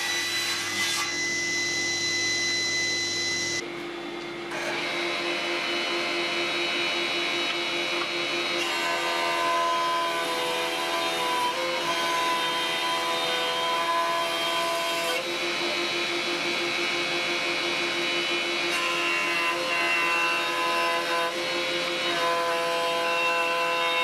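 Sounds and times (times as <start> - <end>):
jointer planing wood: 4.5 - 24.0.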